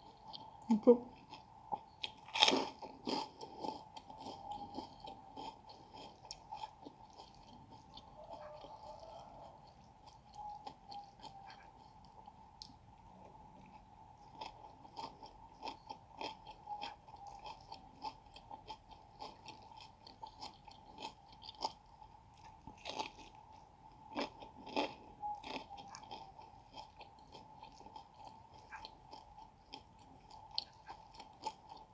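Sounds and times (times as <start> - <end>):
chewing and crunching food: 0.0 - 31.9.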